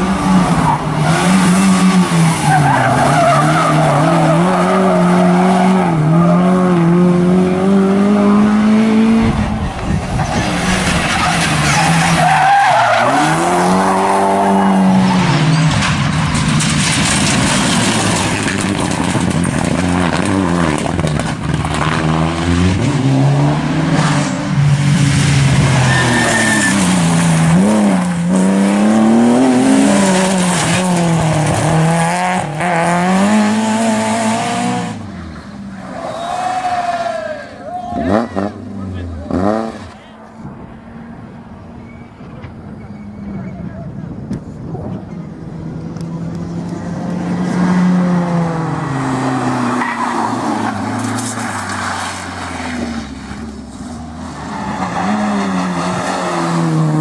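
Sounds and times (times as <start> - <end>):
rally car engine at full throttle: 0.0 - 57.0.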